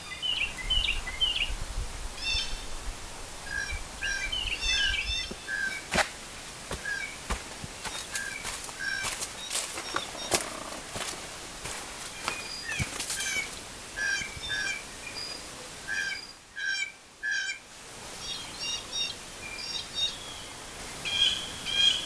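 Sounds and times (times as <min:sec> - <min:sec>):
woodland birds calling: 0:00.0 - 0:01.6, 0:02.2 - 0:02.8, 0:03.4 - 0:06.0, 0:06.7 - 0:17.6, 0:18.2 - 0:22.0.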